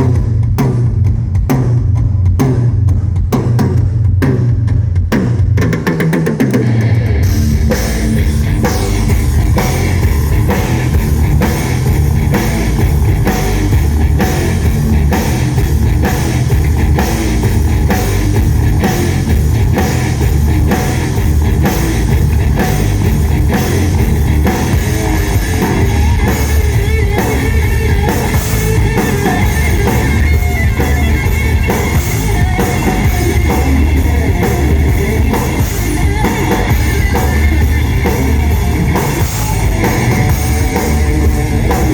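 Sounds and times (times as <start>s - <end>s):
driving drum beat: 0.0s - 41.9s
rock band playing: 5.3s - 41.9s.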